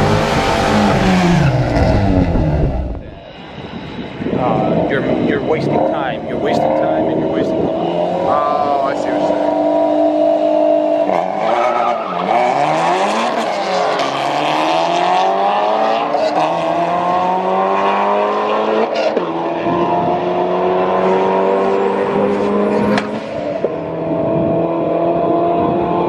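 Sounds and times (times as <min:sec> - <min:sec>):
car engine accelerating: 0:00.0 - 0:03.5, 0:06.6 - 0:26.0.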